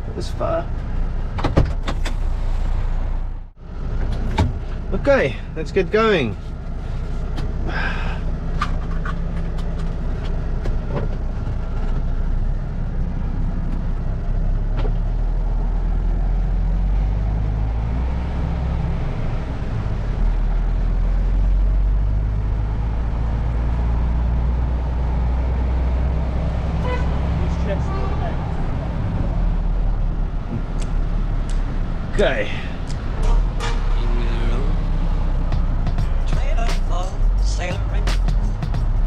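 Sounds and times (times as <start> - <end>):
truck diesel engine droning: 2.0 - 39.0.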